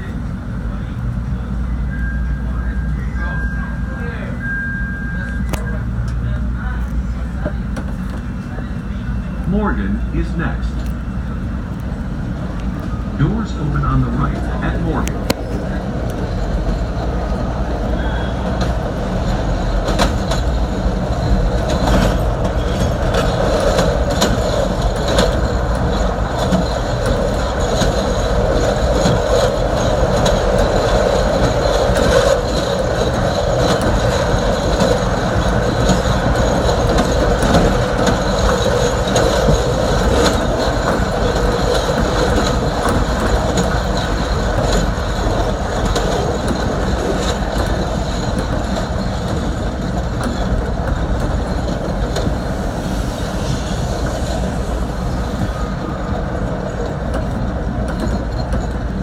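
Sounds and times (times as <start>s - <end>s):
elevated train rumbling: 0.0s - 59.0s
wheels clicking over rail joints: 11.8s - 59.0s.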